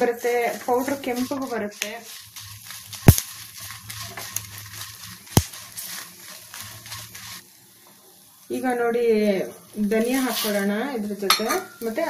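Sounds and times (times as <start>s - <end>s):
faint sizzle in a pan: 0.0s - 12.0s.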